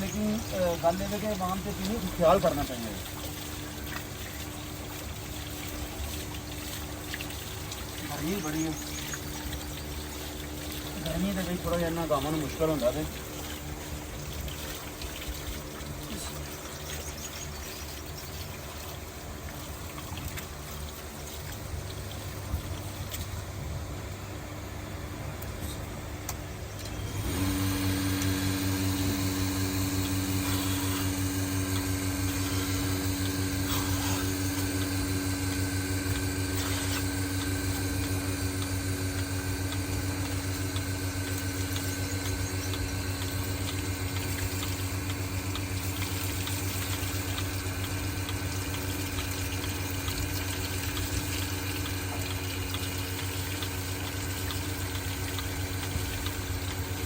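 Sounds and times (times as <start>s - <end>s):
motor-driven pump humming: 0.0s - 57.0s.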